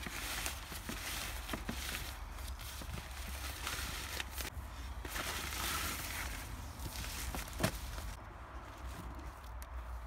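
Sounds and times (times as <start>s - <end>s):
bag and bubble wrap rustling: 0.0s - 8.2s.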